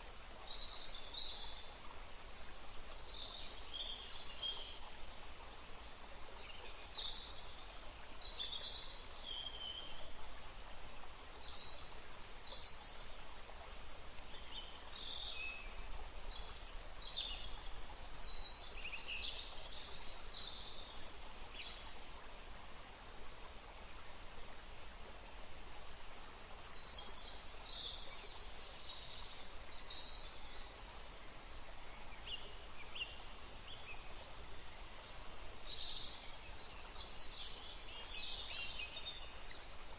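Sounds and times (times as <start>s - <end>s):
flowing water: 0.0s - 39.9s
wind in trees: 0.0s - 39.9s.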